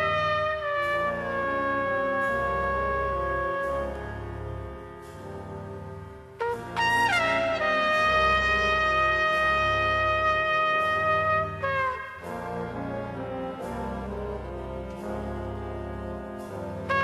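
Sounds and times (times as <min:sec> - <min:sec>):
soft music accompaniment: 0:00.0 - 0:17.0
steady bass notes: 0:00.0 - 0:17.0.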